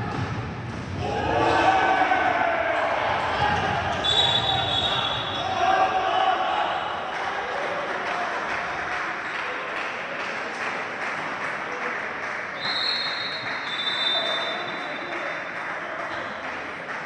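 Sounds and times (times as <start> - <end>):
murmur of crowd voices: 0.0 - 17.0.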